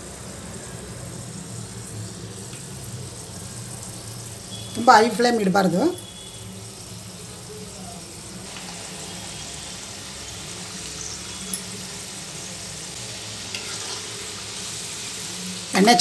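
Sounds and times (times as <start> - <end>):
dough sizzling in hot oil: 0.0 - 16.0.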